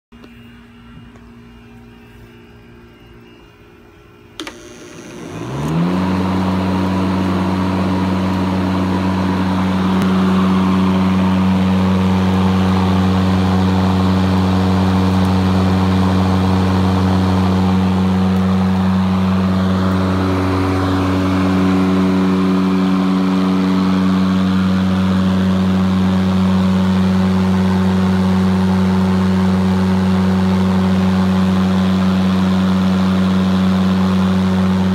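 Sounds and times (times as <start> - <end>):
electric motor whining and humming: 0.2 - 34.9.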